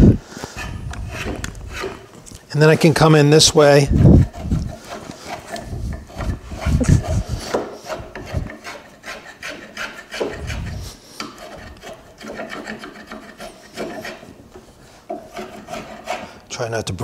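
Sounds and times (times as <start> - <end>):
spokeshave scraping wood: 0.2 - 16.4.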